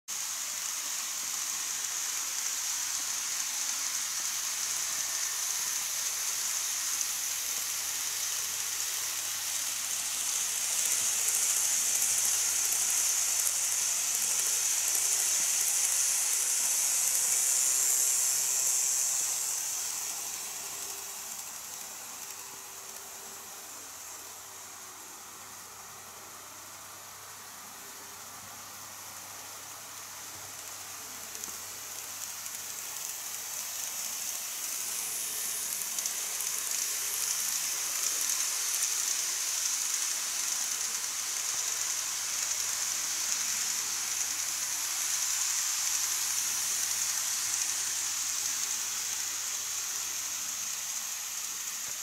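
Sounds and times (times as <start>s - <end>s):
model train wheels hissing: 0.1s - 52.0s.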